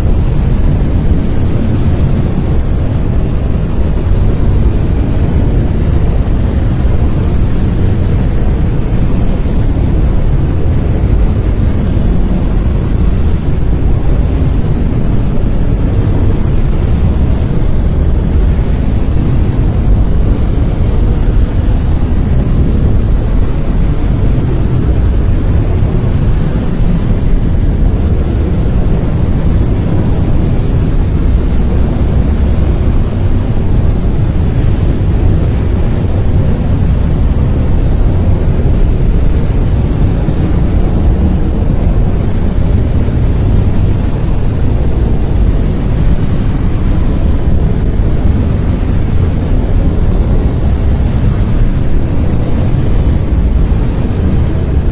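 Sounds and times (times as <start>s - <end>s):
brown noise: 0.0s - 54.9s.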